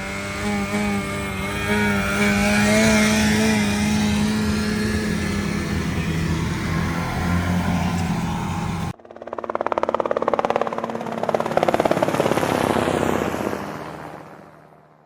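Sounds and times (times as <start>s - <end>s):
pulsing engine note: 0.0s - 12.4s
snowmobile engine running: 0.0s - 14.2s.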